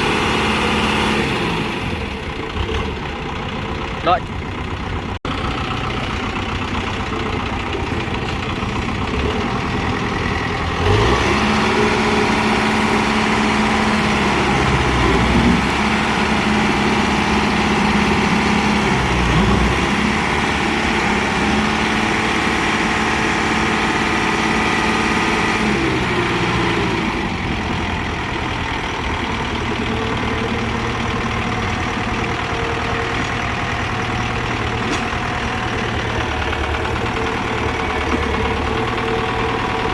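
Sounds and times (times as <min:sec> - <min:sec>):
tractor diesel engine revving: 0:00.0 - 0:39.9.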